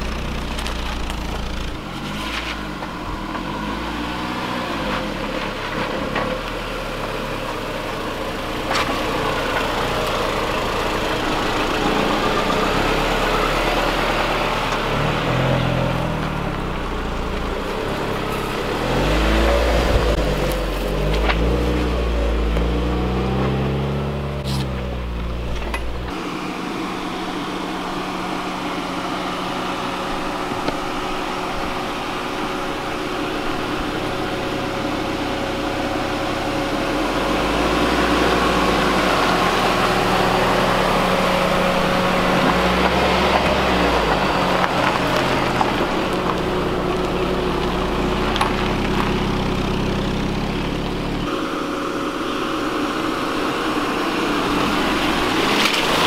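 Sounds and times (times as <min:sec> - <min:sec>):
car engine humming: 0:00.0 - 0:56.0
tyres on dirt: 0:00.0 - 0:56.0.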